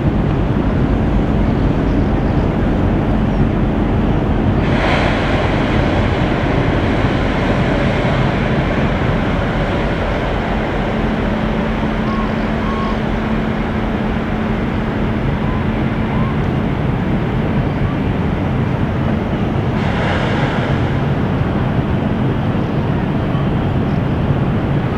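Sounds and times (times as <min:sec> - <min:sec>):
funnel rushing noise: 0:00.0 - 0:24.9
low hum: 0:00.0 - 0:24.9.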